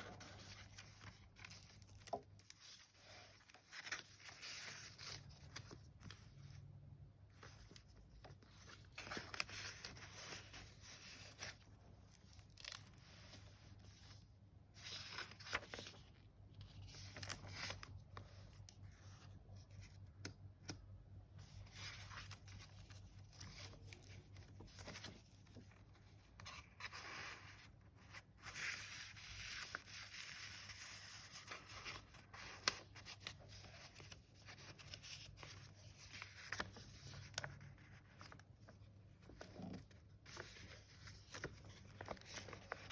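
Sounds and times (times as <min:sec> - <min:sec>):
paper pages rustling: 0:00.0 - 0:20.8, 0:21.4 - 0:42.9.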